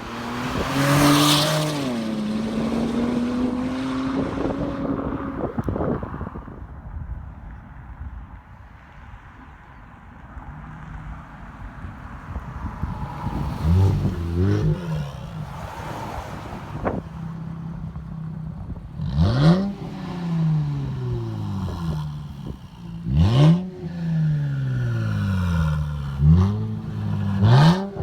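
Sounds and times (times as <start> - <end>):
car engine idling and revving: 0.0 - 6.8, 10.0 - 28.0.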